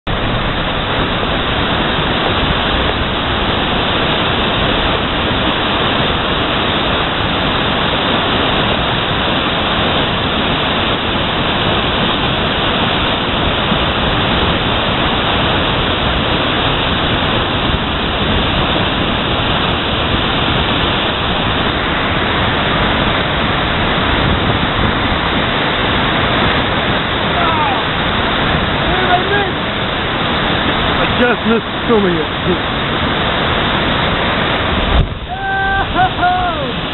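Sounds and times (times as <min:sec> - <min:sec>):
river rushing over boulders: 0:00.1 - 0:36.9.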